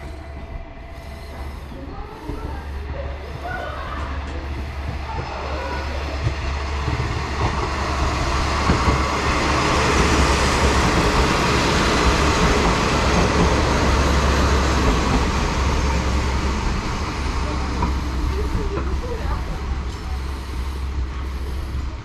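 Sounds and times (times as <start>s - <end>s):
diesel railcar engine rumble: 0.0s - 22.0s
train wheels on rails: 0.0s - 22.0s.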